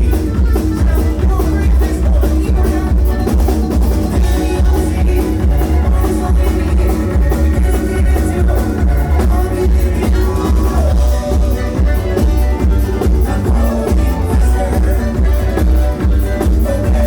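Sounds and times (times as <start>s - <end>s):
bass and drum beat: 0.0s - 17.0s
bluegrass band playing rock song: 0.0s - 17.0s.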